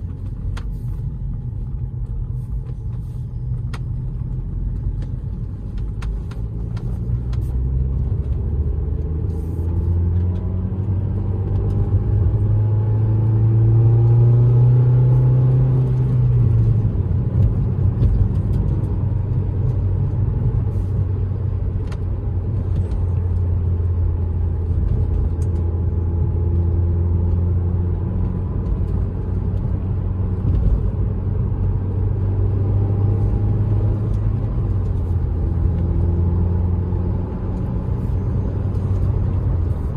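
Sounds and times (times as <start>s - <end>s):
car engine drone: 0.0s - 39.9s
road rumble: 0.0s - 39.9s.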